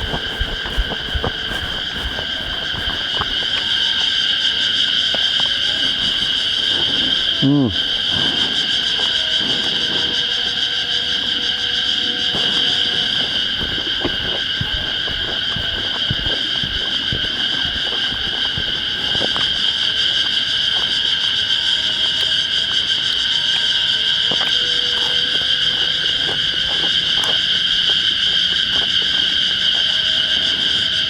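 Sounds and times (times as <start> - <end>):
cicadas droning: 0.0 - 31.0.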